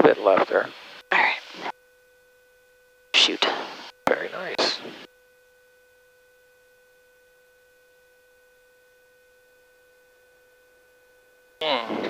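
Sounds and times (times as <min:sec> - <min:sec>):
faint electrical whine: 0:00.0 - 0:12.0.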